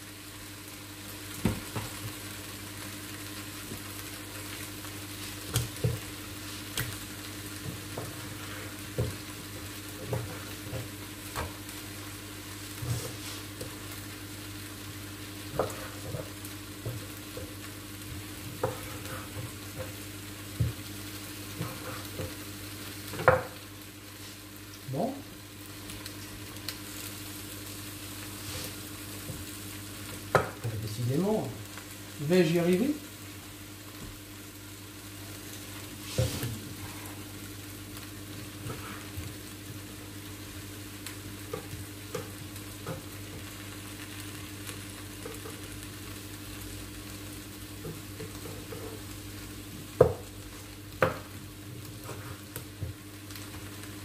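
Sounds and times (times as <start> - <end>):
steady hiss: 2.3 - 47.9.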